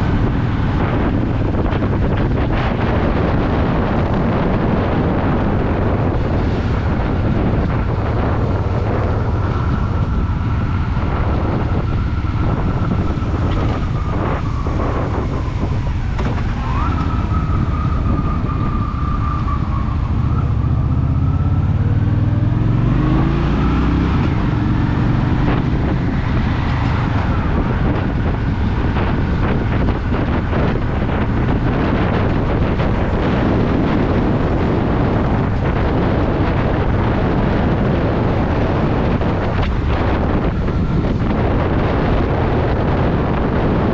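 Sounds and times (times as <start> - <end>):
motorcycle engine running: 0.0 - 16.6, 19.9 - 43.9
wind noise on microphone: 0.0 - 43.9.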